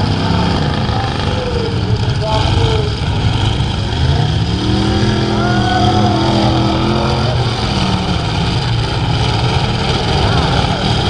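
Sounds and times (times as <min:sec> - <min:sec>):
race truck engine revving: 0:00.0 - 0:11.0
race truck engines running: 0:00.0 - 0:11.0.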